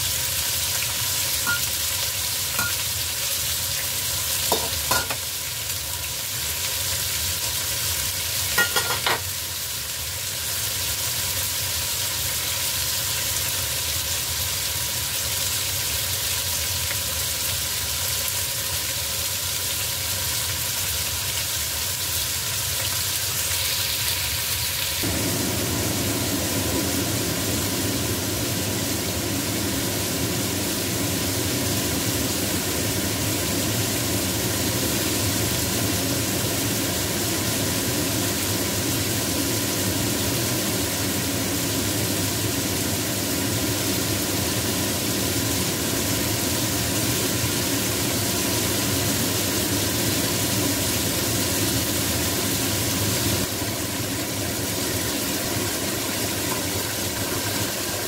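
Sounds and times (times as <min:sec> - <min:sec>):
chicken sizzling in pan: 0:00.0 - 0:58.0.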